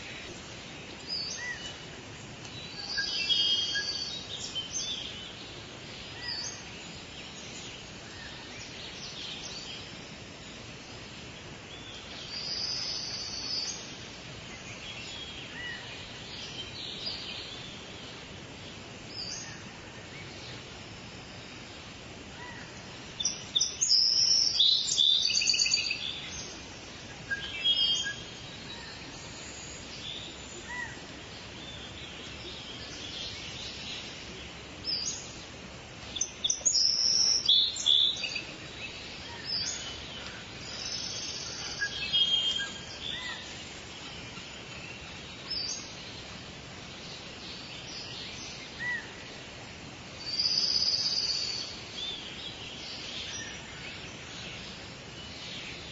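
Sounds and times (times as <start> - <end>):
birds singing and calling: 0.0 - 55.9
forest background hiss: 0.0 - 55.9.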